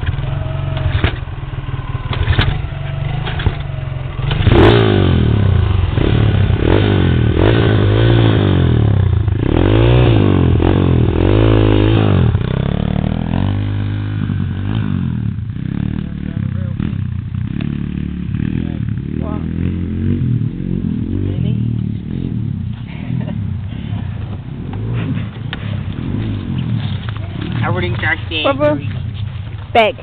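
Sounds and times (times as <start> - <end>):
small engine revving: 0.0 - 29.3.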